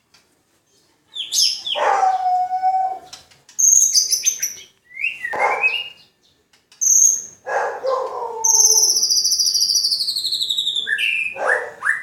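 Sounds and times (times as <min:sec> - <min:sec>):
songbird singing: 0:00.7 - 0:12.0.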